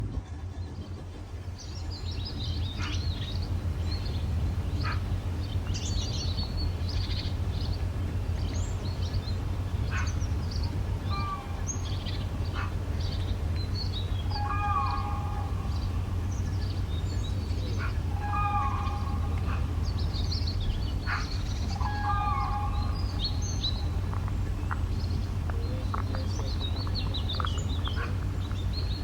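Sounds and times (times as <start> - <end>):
songbirds chirping: 0.0 - 29.0
steady low rumble: 0.0 - 29.0.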